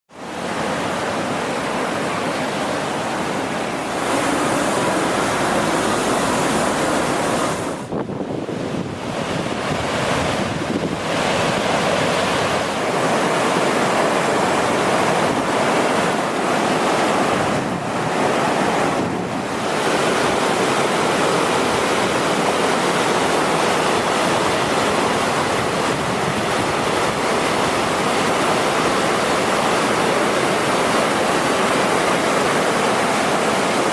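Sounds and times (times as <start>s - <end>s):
floodwater rushing: 0.1s - 33.9s
wind buffeting microphone: 3.0s - 33.9s.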